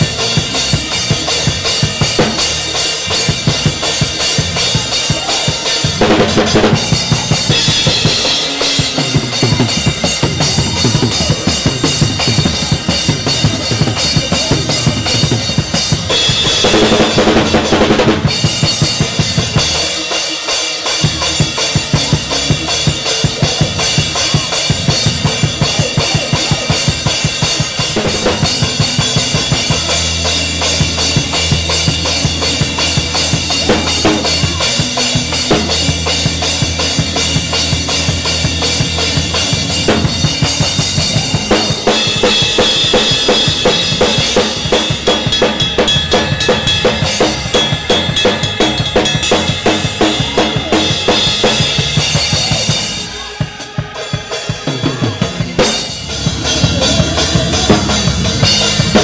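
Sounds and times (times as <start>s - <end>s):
deep held bass notes: 0.0s - 20.1s, 20.9s - 53.2s, 54.8s - 59.0s
drum kit playing fast groove: 0.0s - 59.0s.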